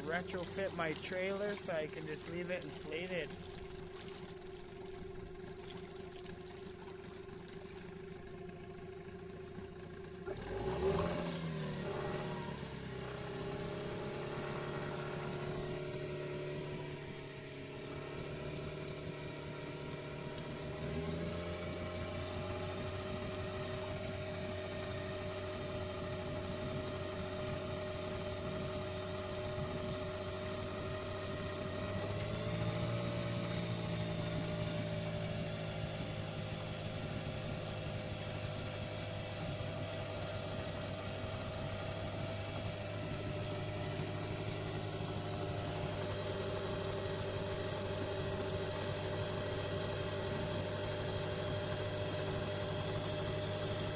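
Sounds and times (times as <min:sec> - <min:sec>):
outboard engine idling: 0:00.0 - 0:53.9.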